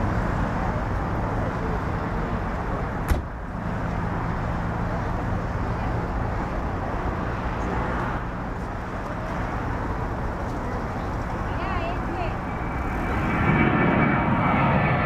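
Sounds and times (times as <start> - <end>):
low rumble of distant engines: 0.0 - 15.0.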